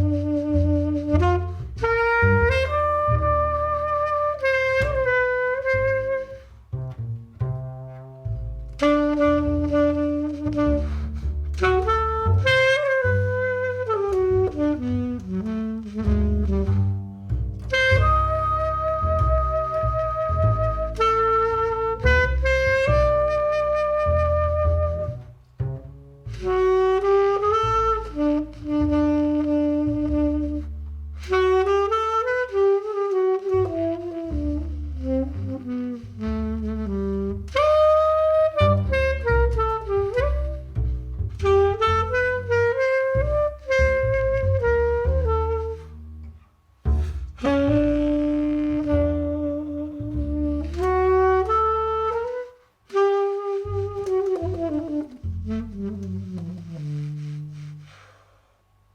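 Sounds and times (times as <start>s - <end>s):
upright bass: 0.0s - 58.2s
tenor saxophone jazz melody: 0.0s - 58.4s.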